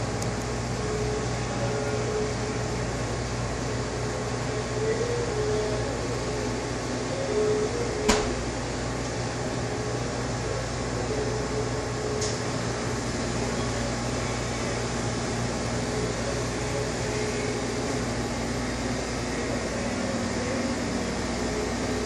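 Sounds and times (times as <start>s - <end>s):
cooling equipment hum and whir: 0.0s - 22.0s.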